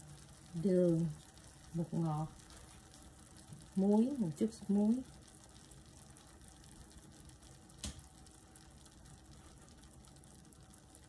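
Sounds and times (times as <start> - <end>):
seafood sizzling in a pan: 0.0 - 11.0.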